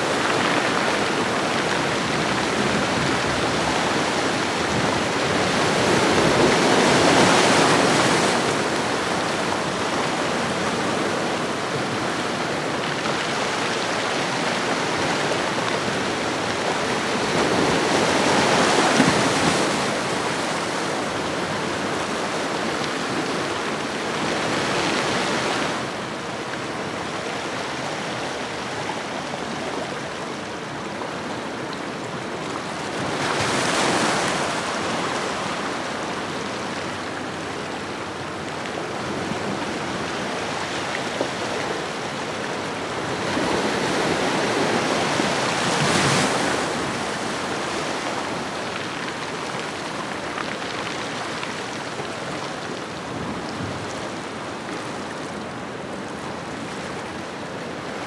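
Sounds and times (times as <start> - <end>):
ocean waves washing ashore: 0.0 - 58.0.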